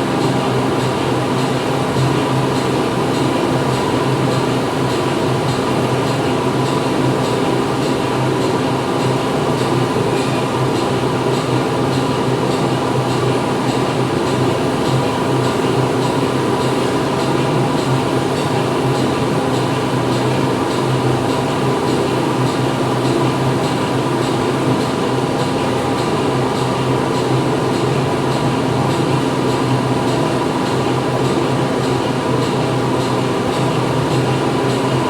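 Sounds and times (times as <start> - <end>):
factory machinery running: 0.0 - 35.0.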